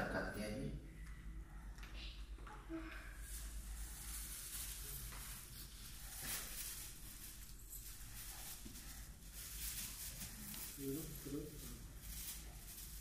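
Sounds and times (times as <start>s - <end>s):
faint rustling: 1.0s - 13.0s.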